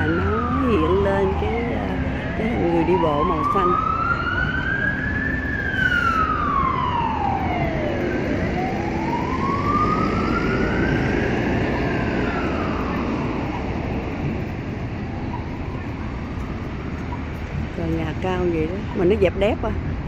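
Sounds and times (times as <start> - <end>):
siren wailing: 0.0 - 17.3
street traffic noise: 0.0 - 20.0.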